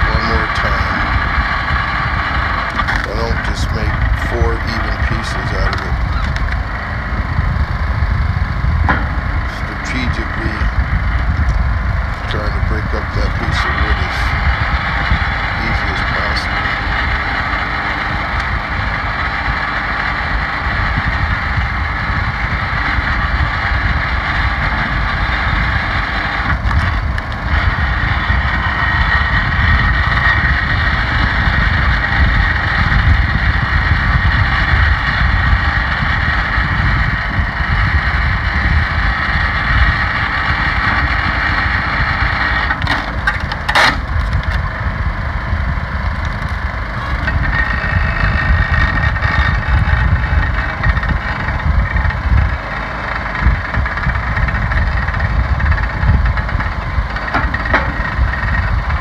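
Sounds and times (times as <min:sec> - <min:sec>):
log splitter engine running: 0:00.0 - 0:59.0.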